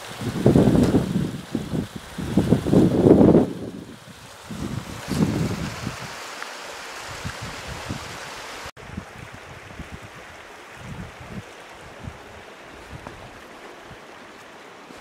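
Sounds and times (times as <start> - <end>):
wind buffeting microphone: 0.0 - 6.2, 7.0 - 14.2
stream running over rocks: 0.0 - 15.0.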